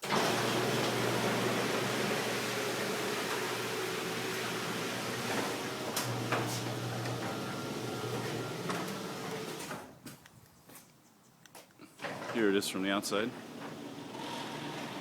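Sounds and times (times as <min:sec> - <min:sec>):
garage door opener running: 0:00.0 - 0:09.9, 0:12.0 - 0:12.6, 0:13.2 - 0:15.0.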